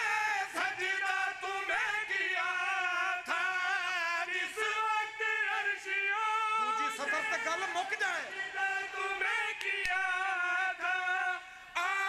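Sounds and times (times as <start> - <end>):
men singing devotional verse: 0.0 - 12.0.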